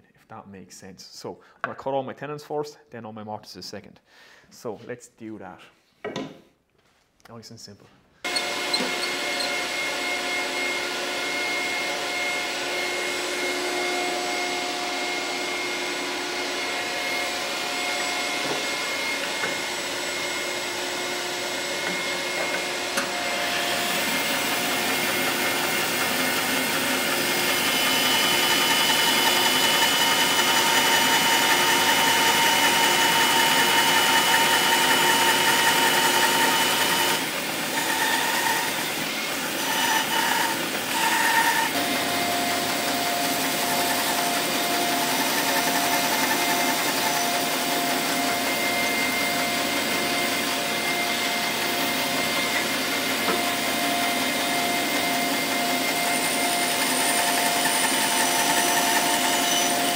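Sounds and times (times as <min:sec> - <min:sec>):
bandsaw blade cutting wood: 0:08.2 - 0:59.9
bandsaw whine: 0:08.2 - 0:59.9.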